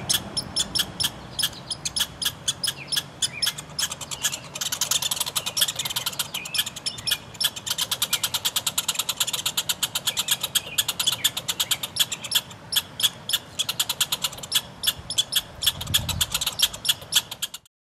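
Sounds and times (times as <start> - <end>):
squirrels chattering: 0.0 - 17.7.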